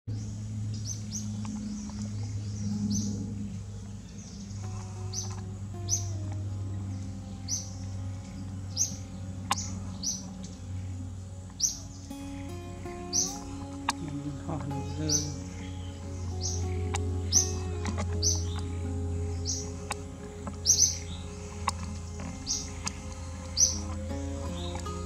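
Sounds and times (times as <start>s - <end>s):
small birds chirping: 0.1s - 25.0s
steady low hum: 0.1s - 25.0s.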